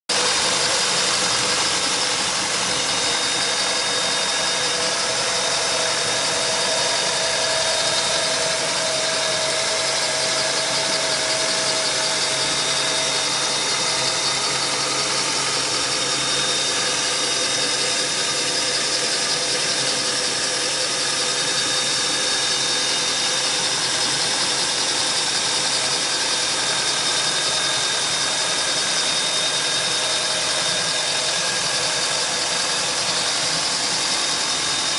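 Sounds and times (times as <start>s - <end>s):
high-pitched whine: 0.1s - 34.9s.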